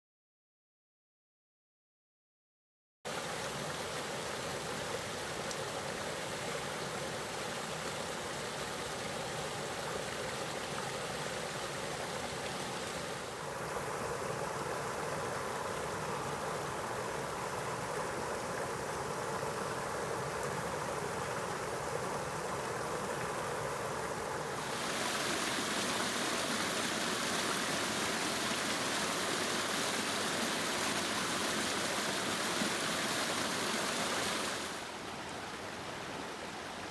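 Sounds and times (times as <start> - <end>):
brook rapids rushing: 3.1 - 36.9.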